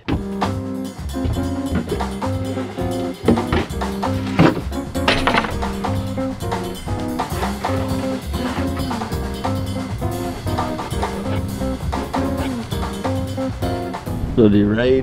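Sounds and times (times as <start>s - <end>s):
horn notes: 0.0s - 14.3s
guitar notes: 0.0s - 14.4s
jazz drum kit beat: 0.0s - 14.4s.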